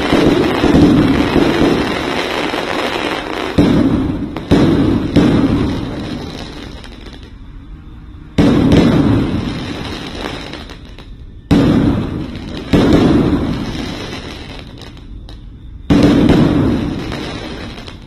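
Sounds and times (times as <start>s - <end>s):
firework shells booming: 0.0s - 7.4s, 8.2s - 18.0s.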